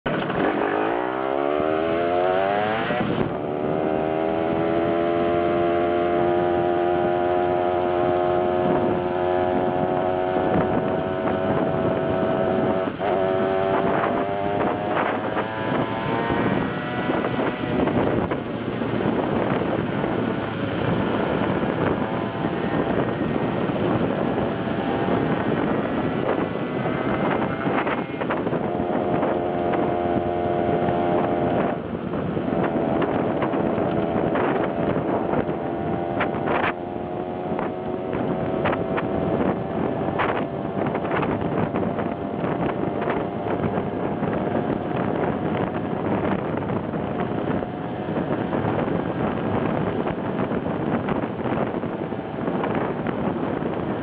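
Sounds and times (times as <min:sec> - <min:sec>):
moped engine buzzing: 0:00.1 - 0:54.0.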